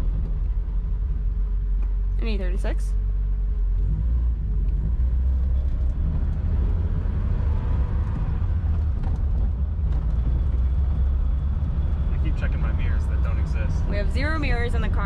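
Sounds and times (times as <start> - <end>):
car engine and road noise rumble: 0.0 - 15.0.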